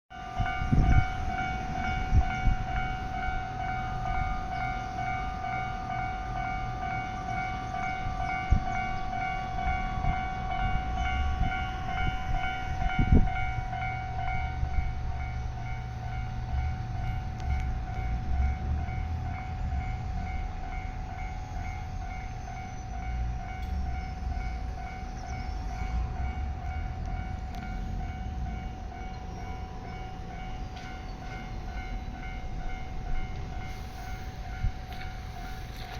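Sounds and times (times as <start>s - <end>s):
train rumbling past: 0.1s - 35.9s.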